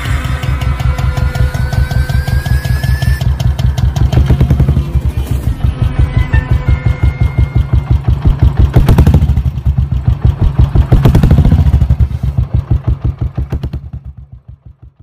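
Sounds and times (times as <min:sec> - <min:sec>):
motorcycle engine thumping: 0:00.2 - 0:15.0.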